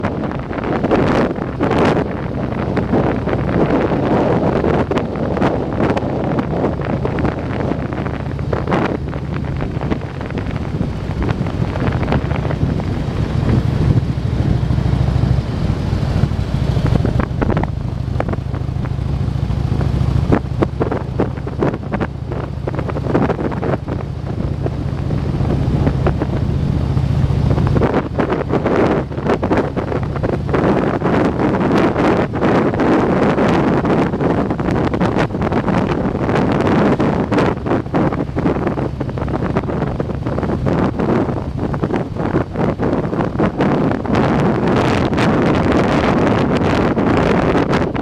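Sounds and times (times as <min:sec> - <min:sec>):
motorcycle engine running: 0:00.0 - 0:48.0
wind buffeting microphone: 0:00.0 - 0:48.0.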